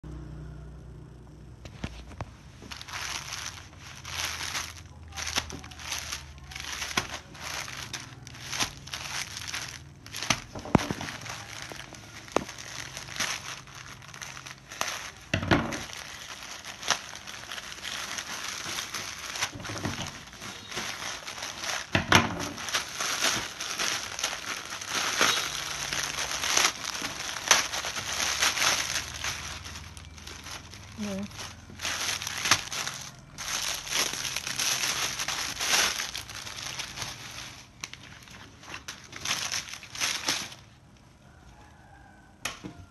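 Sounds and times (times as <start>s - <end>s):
plastic mailer bag crinkling: 1.7s - 41.0s.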